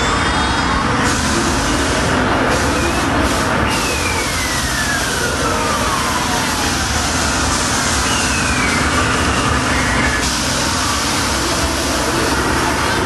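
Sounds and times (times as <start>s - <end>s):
spinning ride rumble: 0.0s - 13.0s.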